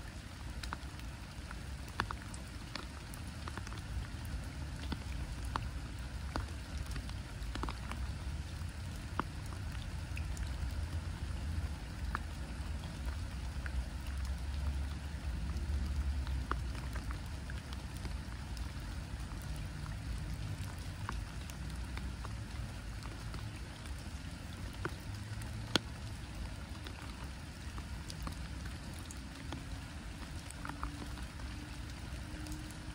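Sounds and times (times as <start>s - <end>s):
rain on pond surface: 0.0s - 32.9s.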